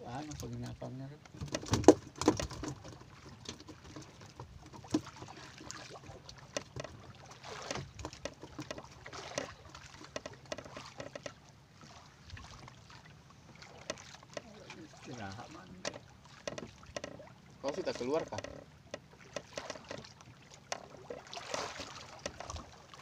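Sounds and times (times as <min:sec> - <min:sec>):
water splashing against hull: 0:00.0 - 0:23.0
low boat engine drone: 0:02.9 - 0:23.0.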